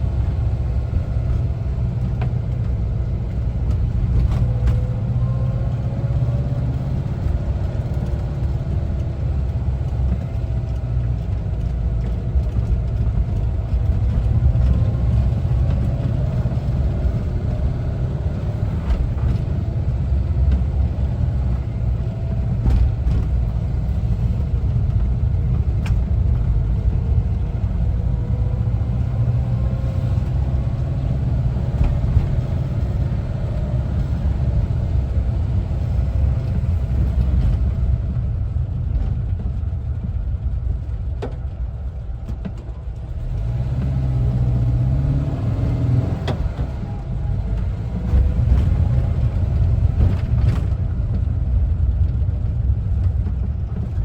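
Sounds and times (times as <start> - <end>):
van engine running: 0.0 - 54.0.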